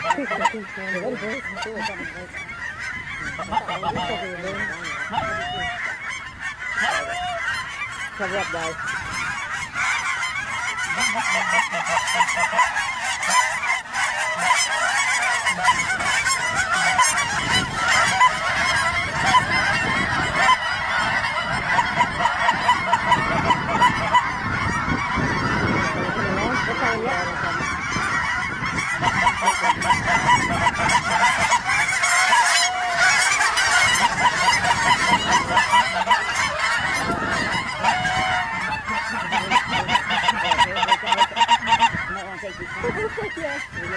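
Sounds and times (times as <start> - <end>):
geese honking: 0.0 - 43.9.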